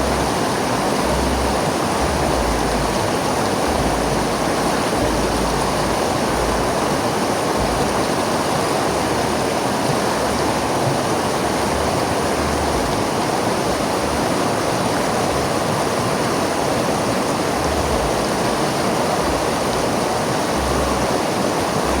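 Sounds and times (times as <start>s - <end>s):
river water rushing over rocks: 0.0s - 22.0s.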